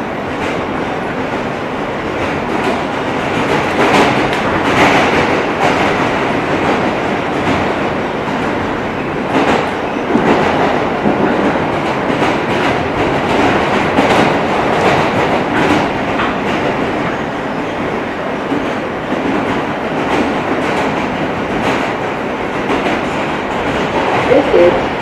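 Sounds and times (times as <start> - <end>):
subway wheels rumbling on rail: 0.0 - 25.0
clacks over rail joints: 2.0 - 24.3.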